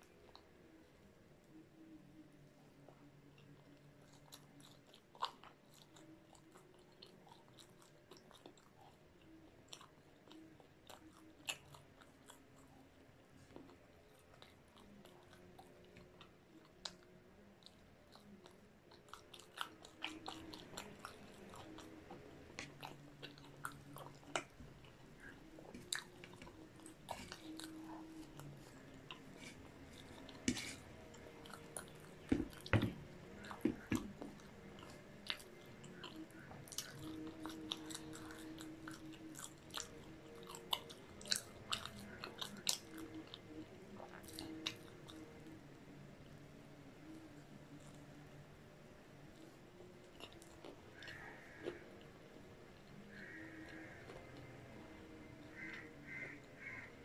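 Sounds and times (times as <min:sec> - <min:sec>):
close chewing with mouth clicks: 0:00.0 - 0:57.0.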